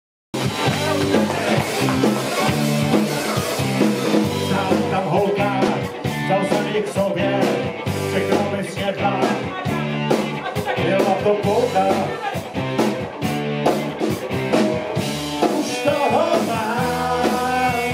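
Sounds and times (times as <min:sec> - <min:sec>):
bass guitar: 0:00.3 - 0:17.9
drums with steady beat: 0:00.3 - 0:17.9
electric guitars: 0:00.4 - 0:17.9.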